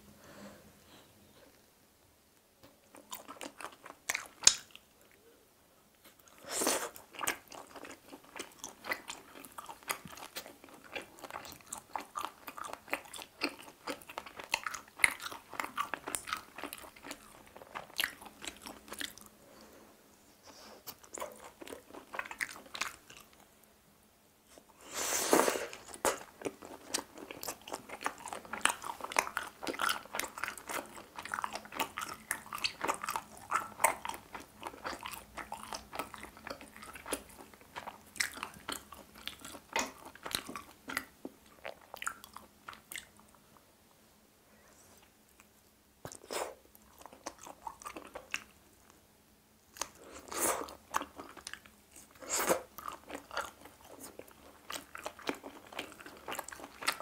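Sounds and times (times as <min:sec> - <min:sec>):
chewing meat mouth sounds: 0:02.6 - 0:04.8, 0:06.1 - 0:19.4, 0:20.8 - 0:23.4, 0:25.7 - 0:43.4, 0:45.3 - 0:48.6, 0:49.7 - 0:57.0.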